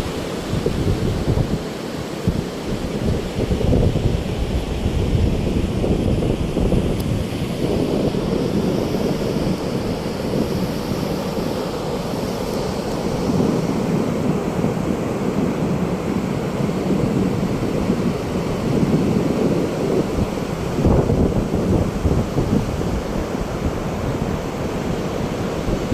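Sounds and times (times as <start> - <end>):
surf breaking on a beach: 0.0 - 25.9
wind buffeting microphone: 0.0 - 25.9.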